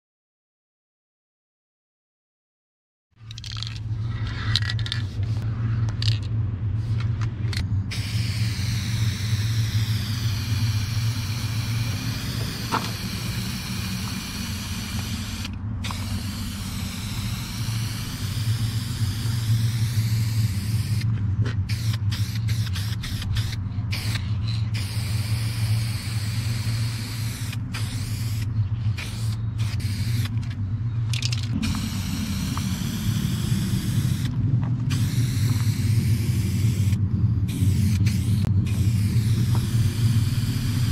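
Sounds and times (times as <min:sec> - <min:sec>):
steady low rumble: 0:03.2 - 0:40.9
spray paint can hissing: 0:06.0 - 0:40.9.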